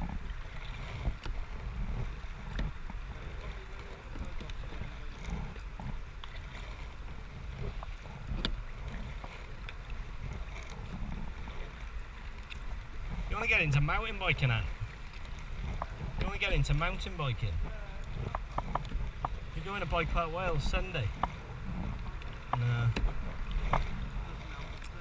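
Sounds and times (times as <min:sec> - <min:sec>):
water splashing and lapping: 0:00.0 - 0:25.0.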